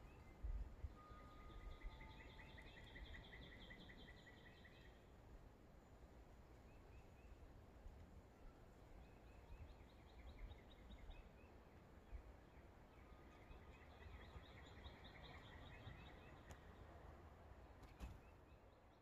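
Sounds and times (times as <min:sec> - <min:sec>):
faint songbird chirps: 0:00.0 - 0:19.0
low outdoor background noise: 0:00.0 - 0:19.0.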